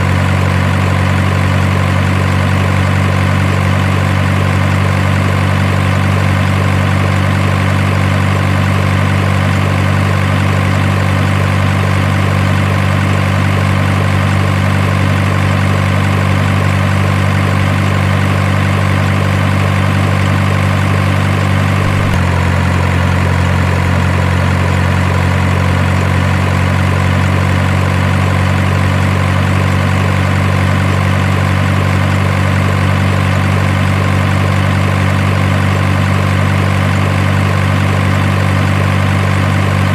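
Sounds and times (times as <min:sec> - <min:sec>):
simulated truck engine idling: 0:00.0 - 0:39.9.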